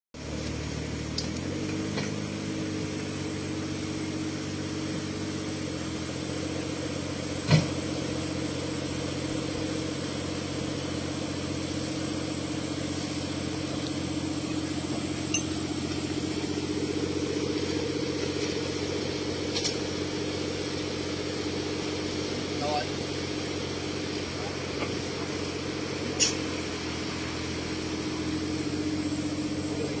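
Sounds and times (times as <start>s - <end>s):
buggy engine idling: 0.2s - 30.0s.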